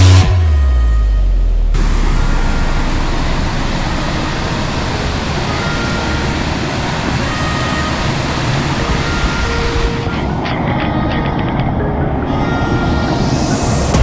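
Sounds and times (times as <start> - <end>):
waterfall rushing: 1.8 - 14.0.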